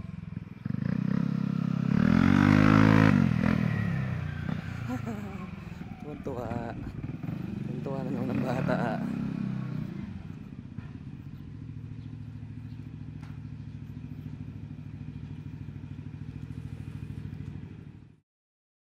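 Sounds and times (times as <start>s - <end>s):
scooter engine running: 0.0s - 18.2s.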